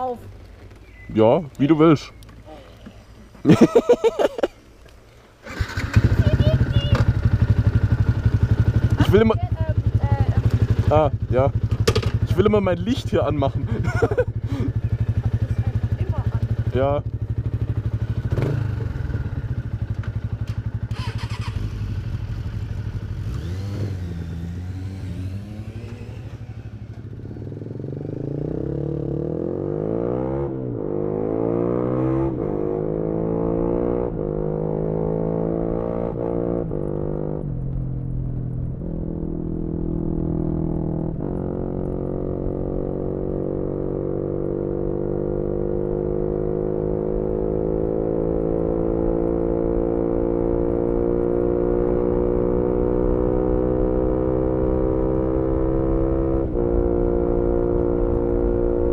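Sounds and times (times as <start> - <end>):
motorcycle engine revving: 5.4 - 58.9.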